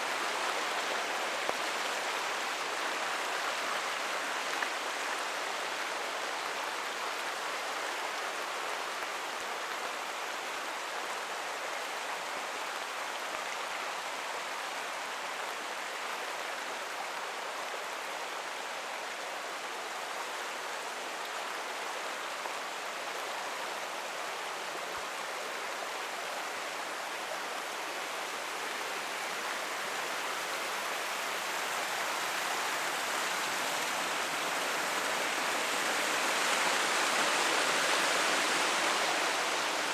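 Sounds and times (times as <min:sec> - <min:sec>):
forest creek flowing: 0:00.0 - 0:39.9.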